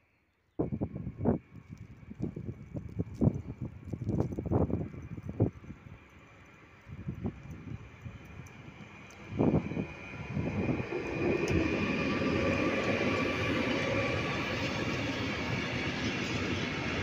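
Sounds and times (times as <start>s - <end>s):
electric locomotive passing: 1.2s - 17.0s
freight wagons rumbling on rails: 1.4s - 17.0s.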